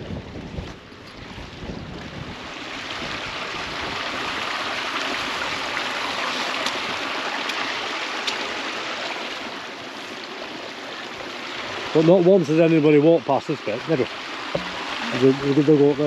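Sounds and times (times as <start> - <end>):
water rushing in a stream: 0.0 - 16.0.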